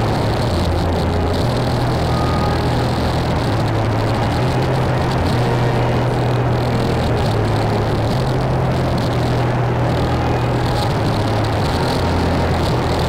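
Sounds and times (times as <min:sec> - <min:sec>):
dark ambient drone music: 0:00.0 - 0:13.0
distorted noise wall: 0:00.0 - 0:13.0
low held tones: 0:00.0 - 0:13.0.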